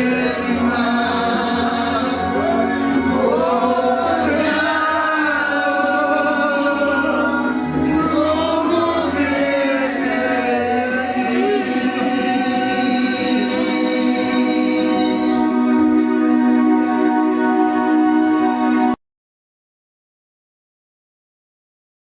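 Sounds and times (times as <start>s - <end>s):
choir singing with vibrato: 0.0s - 19.0s
held keyboard chords: 0.0s - 19.0s.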